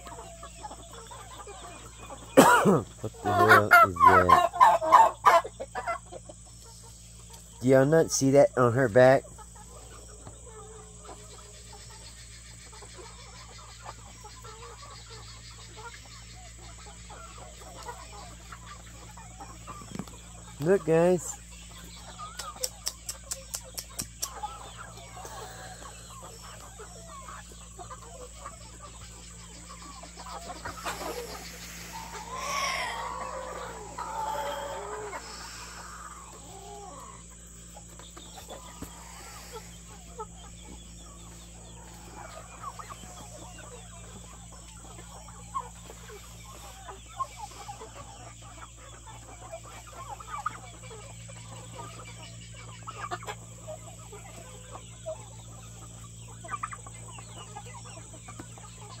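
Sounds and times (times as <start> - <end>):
chickens clucking: 0.0 - 59.0
drawn-out chicken call: 0.0 - 59.0.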